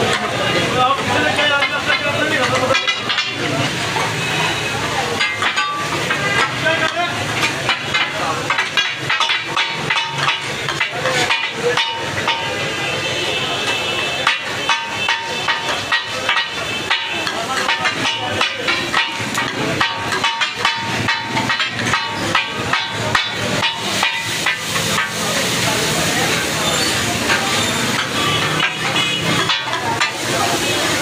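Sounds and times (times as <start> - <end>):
food sizzling: 0.0 - 31.0.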